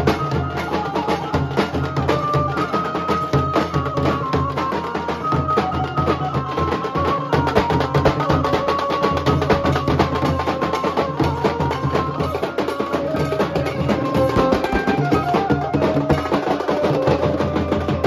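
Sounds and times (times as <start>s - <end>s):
barrel drums beaten fast: 0.0s - 18.0s
held melody line: 0.0s - 18.0s.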